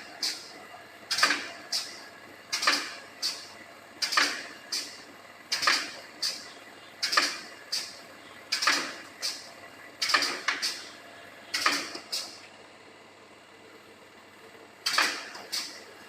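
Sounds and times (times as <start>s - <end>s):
pneumatic welding machine clacking: 0.0s - 12.5s, 14.8s - 16.0s.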